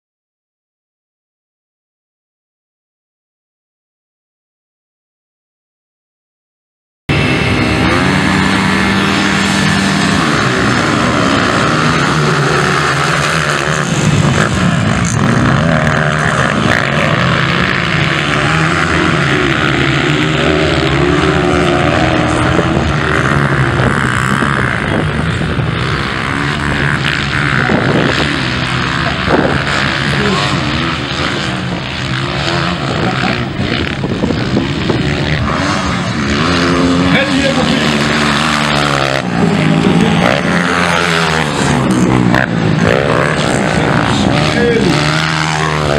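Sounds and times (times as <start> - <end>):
motocross bikes revving and racing: 7.1 - 45.9.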